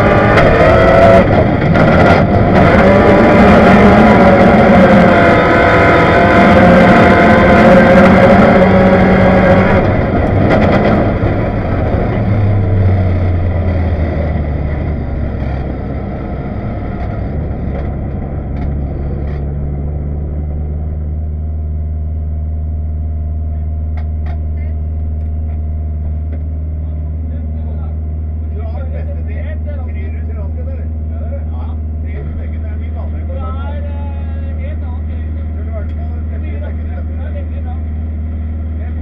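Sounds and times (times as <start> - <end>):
rally car engine revving and idling: 0.0 - 39.0.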